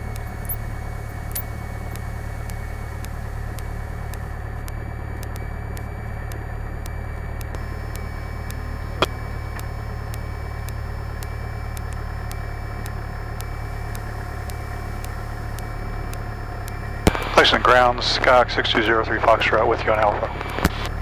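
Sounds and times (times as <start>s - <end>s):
aircraft piston engine running: 0.0s - 21.0s
sharp click: 0.2s - 21.0s.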